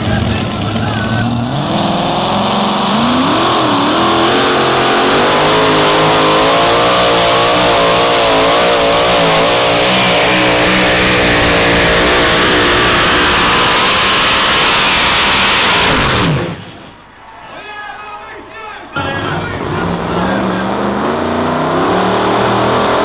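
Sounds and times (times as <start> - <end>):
truck engine at full throttle: 0.0 - 16.9, 19.0 - 23.0.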